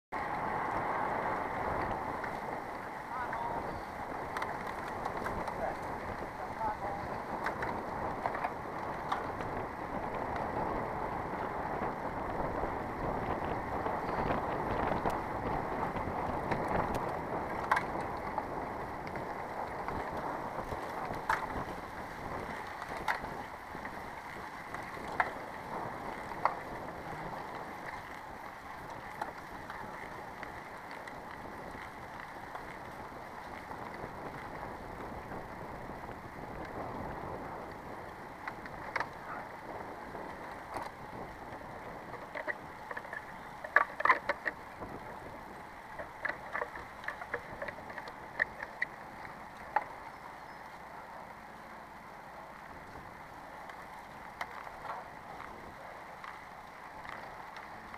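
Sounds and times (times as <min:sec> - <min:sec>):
bicycle tyres rolling on gravel: 0:00.1 - 0:57.9.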